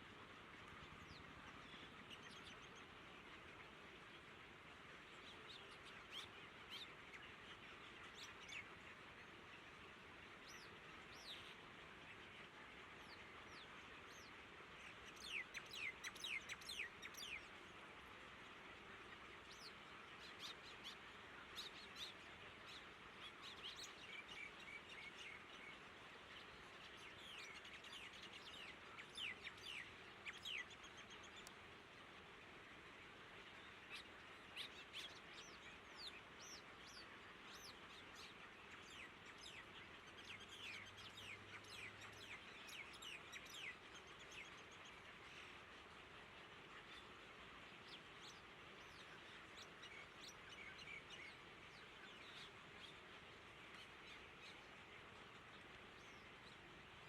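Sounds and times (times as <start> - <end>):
faint steady hiss: 0.0 - 57.0
small birds chirping: 0.0 - 57.0.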